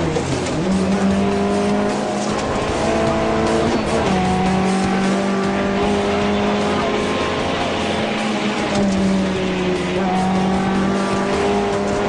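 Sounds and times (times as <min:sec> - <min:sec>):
rally car engine under load: 0:00.0 - 0:12.0.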